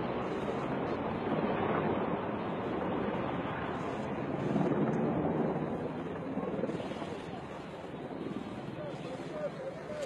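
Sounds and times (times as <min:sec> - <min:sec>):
helicopter rotor drone: 0:00.0 - 0:10.0
wind buffeting microphone: 0:00.0 - 0:10.0.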